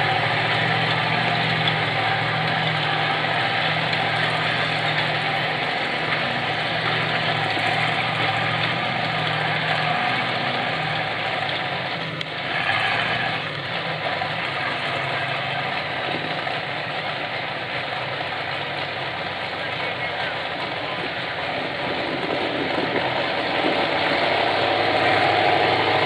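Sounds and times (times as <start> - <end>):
off-road vehicle engines idling: 0.0 - 26.0.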